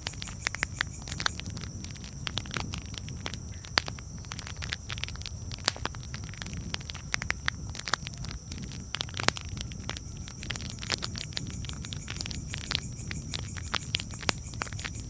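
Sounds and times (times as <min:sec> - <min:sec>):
campfire crackling: 0:00.0 - 0:15.0
low fire rumble: 0:00.1 - 0:15.0.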